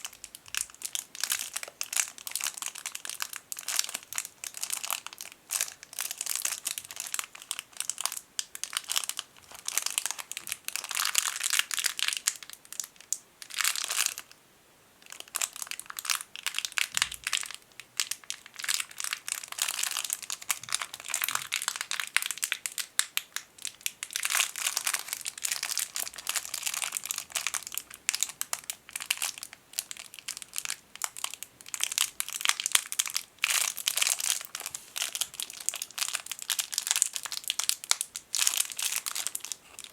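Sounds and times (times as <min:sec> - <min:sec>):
plastic bag crinkling: 0:00.0 - 0:12.9, 0:15.1 - 0:39.9.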